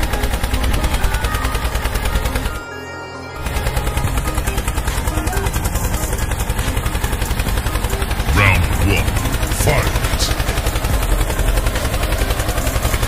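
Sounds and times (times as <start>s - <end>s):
fast continuous rattle: 0.0s - 2.6s, 3.4s - 8.4s, 9.0s - 13.0s
music: 0.0s - 13.0s.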